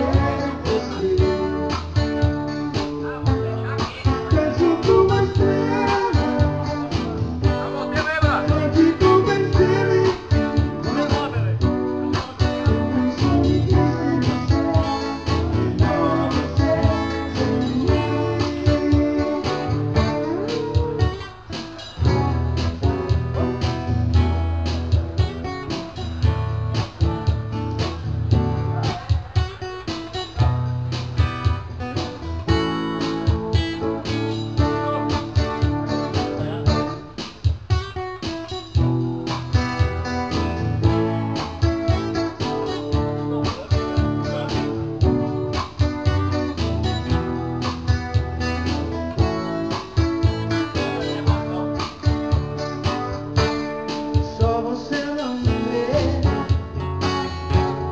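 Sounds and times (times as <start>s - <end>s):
bass line: 0.0s - 57.9s
strummed guitar: 0.0s - 57.9s.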